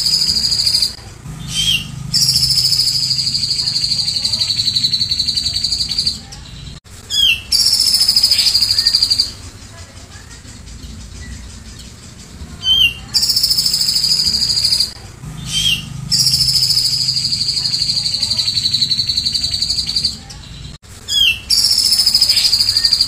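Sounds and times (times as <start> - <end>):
bird singing pulsing trills: 0.0 - 23.0.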